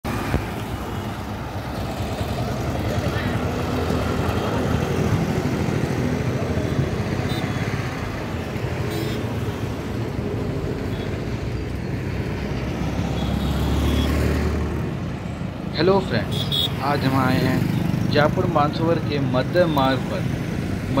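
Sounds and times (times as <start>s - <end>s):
cars passing: 0.0s - 21.0s
motorcycles and scooters passing: 0.1s - 21.0s.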